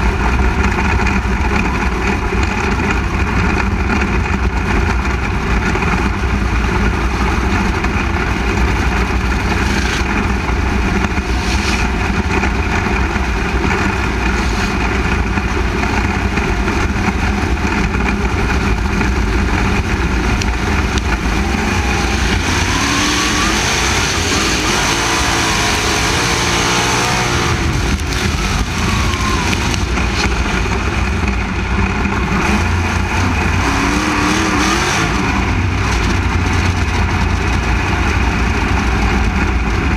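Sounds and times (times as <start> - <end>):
sprint car engine running loud: 0.0 - 39.9.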